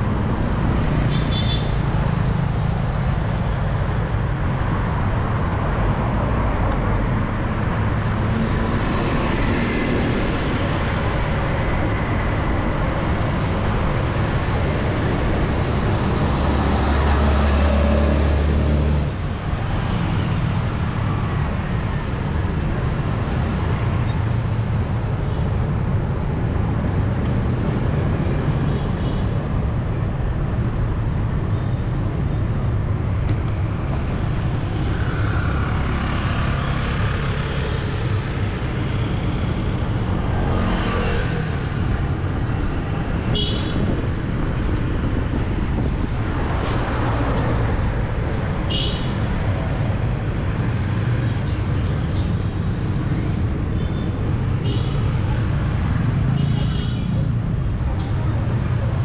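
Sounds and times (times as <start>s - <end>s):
motor vehicles passing: 5.0s - 59.0s.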